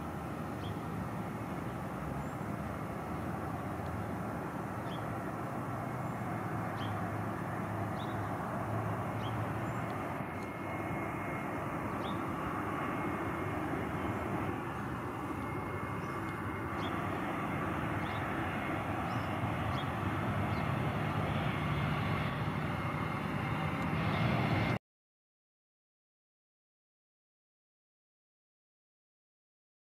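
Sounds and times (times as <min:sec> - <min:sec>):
jet engines rushing: 0:00.0 - 0:24.8.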